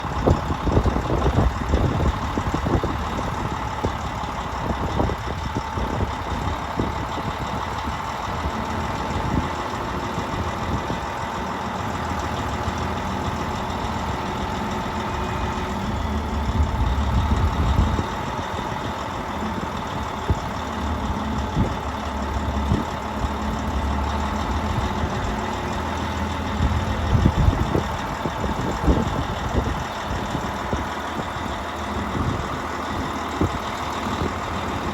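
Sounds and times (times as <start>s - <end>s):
constant whine: 0.0s - 34.9s
diesel engines running: 0.0s - 34.9s.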